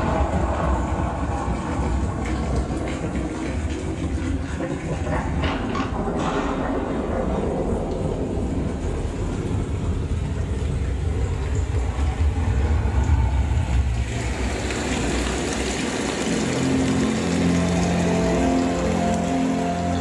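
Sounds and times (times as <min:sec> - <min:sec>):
deep bass rumble from speakers: 0:00.0 - 0:20.0.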